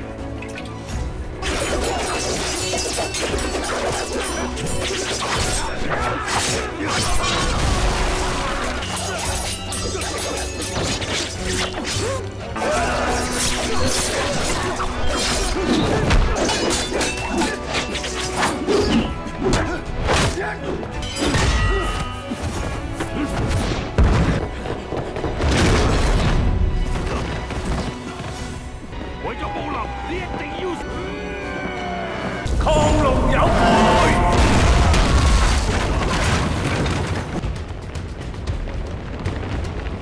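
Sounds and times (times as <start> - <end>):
dramatic orchestral score: 0.0 - 40.0.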